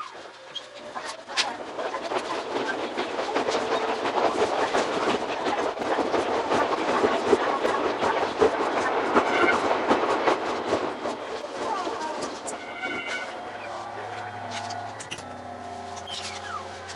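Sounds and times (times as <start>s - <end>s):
electric train running: 0.0s - 16.9s.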